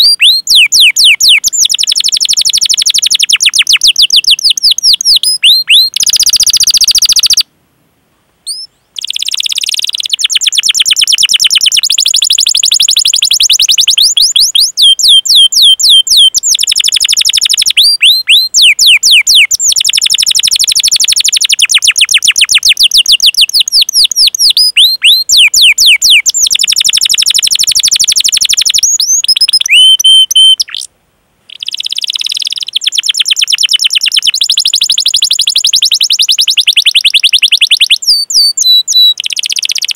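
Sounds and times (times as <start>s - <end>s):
canary singing trills: 0.0s - 7.5s, 8.4s - 30.9s, 31.5s - 39.9s
whistled bird calls: 0.0s - 7.5s, 8.4s - 30.9s, 31.5s - 39.9s.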